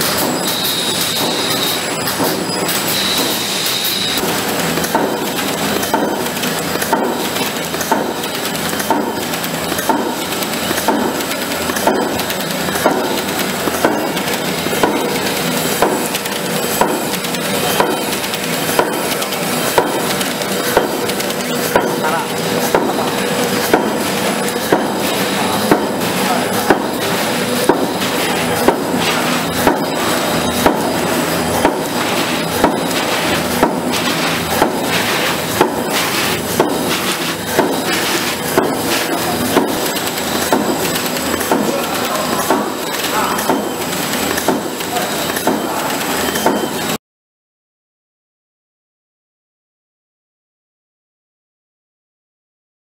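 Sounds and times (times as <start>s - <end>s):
printing machine clattering: 0.0s - 47.0s
sharp machine knock: 0.0s - 47.0s.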